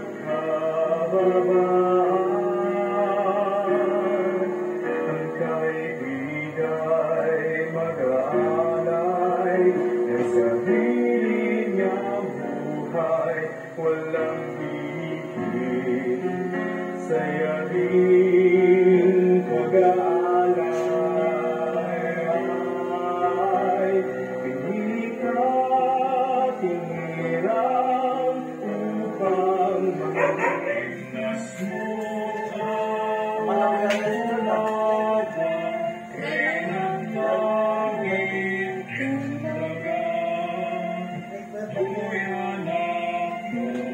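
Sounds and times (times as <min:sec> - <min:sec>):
instrumental accompaniment: 0:00.0 - 0:43.9
man singing a hymn: 0:00.0 - 0:43.9.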